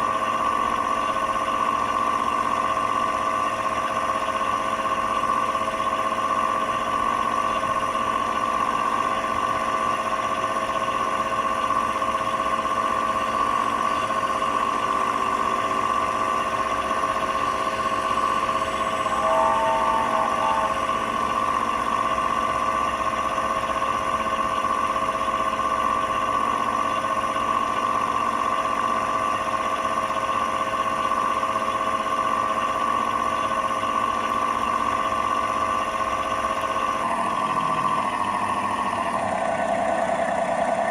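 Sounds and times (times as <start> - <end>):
simulated diesel engine sound: 0.0 - 40.9.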